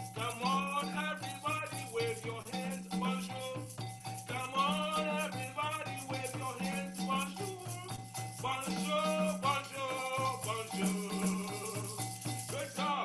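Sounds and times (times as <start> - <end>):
shaker rattling: 0.0 - 13.0
upbeat music: 0.0 - 13.0.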